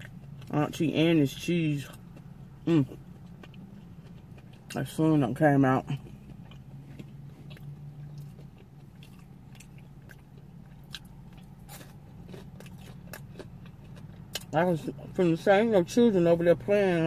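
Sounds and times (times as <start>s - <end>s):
chewing and mouth sounds: 0.0s - 15.2s
faint low hum: 0.0s - 17.0s.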